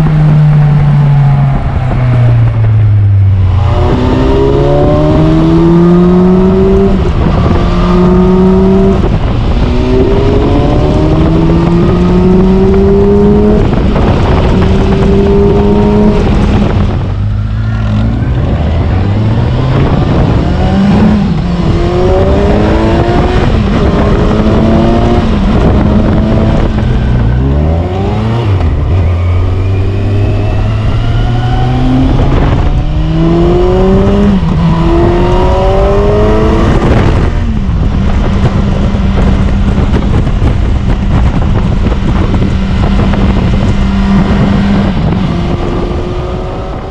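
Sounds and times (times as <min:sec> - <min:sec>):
motorcycle engine accelerating: 0:00.0 - 0:46.9
wind over microphone: 0:00.0 - 0:46.9.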